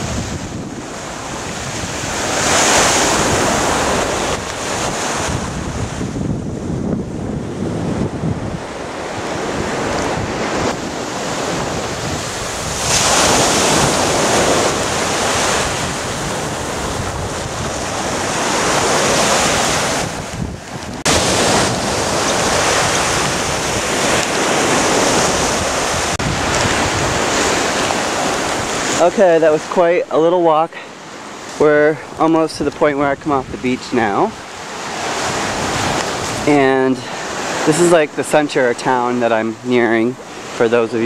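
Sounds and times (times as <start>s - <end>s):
ocean surf breaking: 0.0s - 41.0s
wind buffeting microphone: 0.0s - 41.0s.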